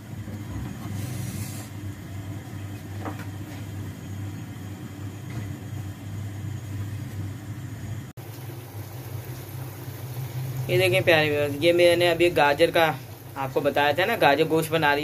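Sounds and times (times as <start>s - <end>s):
gas stove rumble: 0.0s - 15.0s.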